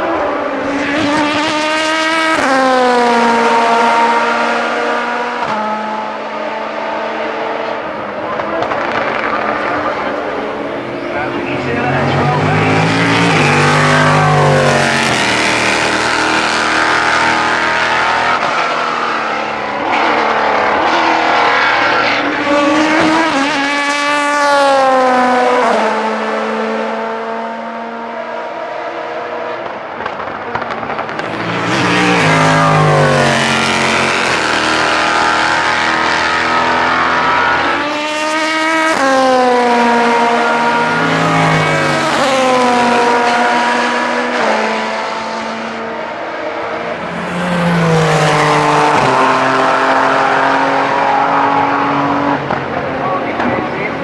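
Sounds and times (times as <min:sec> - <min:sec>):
race cars passing at speed: 0:00.0 - 0:54.0.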